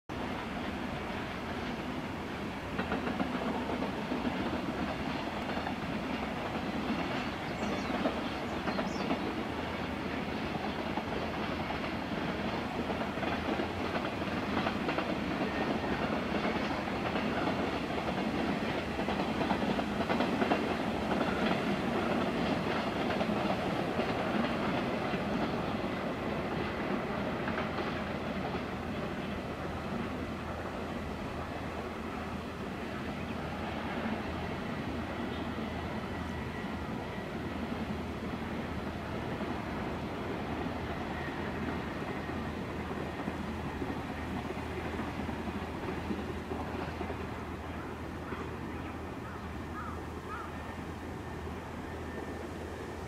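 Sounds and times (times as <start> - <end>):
freight trains running on rails: 0.1 - 53.0.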